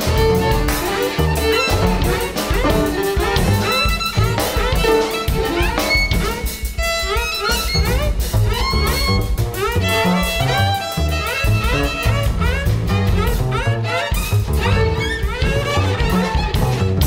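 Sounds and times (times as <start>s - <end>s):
busy drum kit: 0.0s - 17.0s
double basses: 0.0s - 17.0s
saxophone line: 0.0s - 17.0s.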